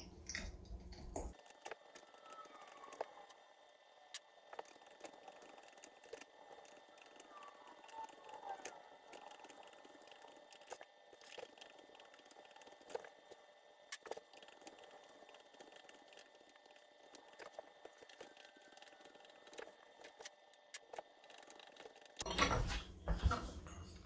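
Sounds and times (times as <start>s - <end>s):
faint clicks and crinkles: 0.0s - 22.3s.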